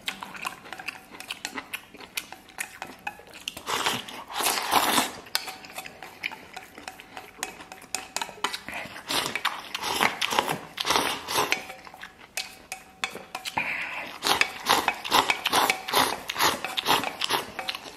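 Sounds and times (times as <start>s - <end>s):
chewing: 0.0s - 17.9s
slurping: 0.0s - 17.9s
chopsticks scraping steel bowl: 0.2s - 17.9s.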